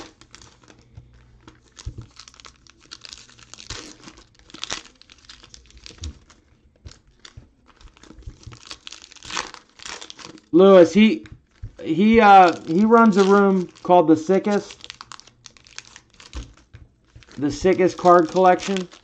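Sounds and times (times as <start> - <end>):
foil wrappers crinkling and tearing: 0.0 - 19.0.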